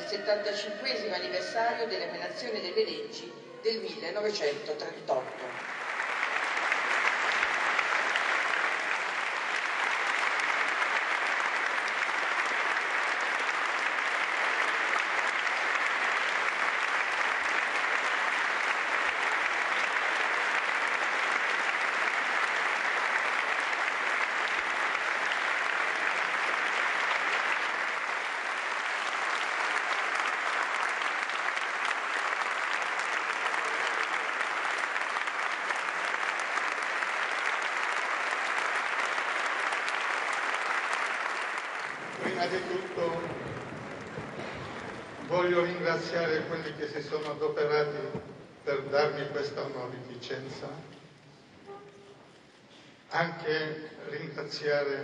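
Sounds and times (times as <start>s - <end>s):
large audience applauding: 5.1s - 52.7s.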